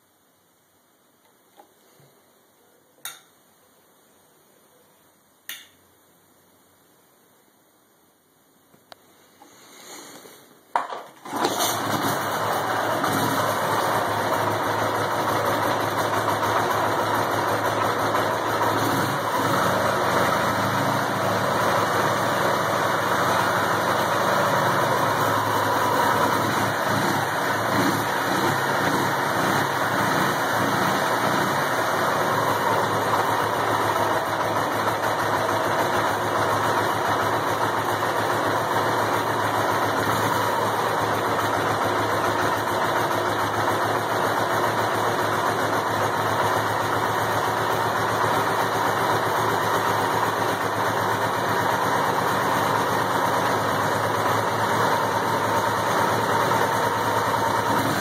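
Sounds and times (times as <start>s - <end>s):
motorcycle engine running: 11.2s - 58.0s.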